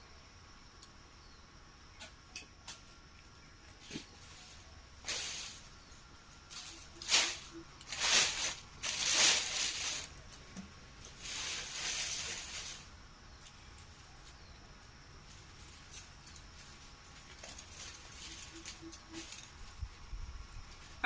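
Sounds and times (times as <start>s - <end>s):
branches and leaves rustling: 1.9s - 21.0s.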